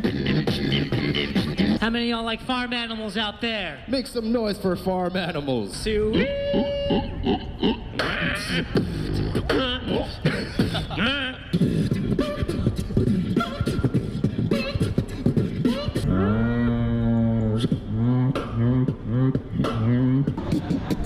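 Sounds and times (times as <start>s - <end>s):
beatboxing through a speaker: 0.0s - 1.8s, 6.0s - 21.0s.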